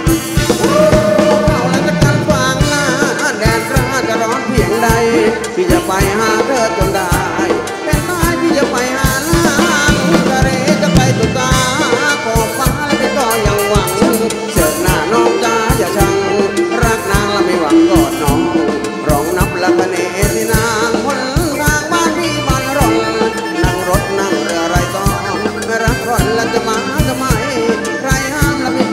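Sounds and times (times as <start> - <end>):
upbeat live dance music: 0.0 - 28.9.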